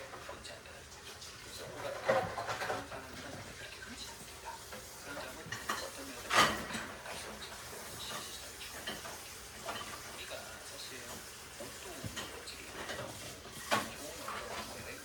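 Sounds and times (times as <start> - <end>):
faint indistinct voice: 0.0 - 15.0.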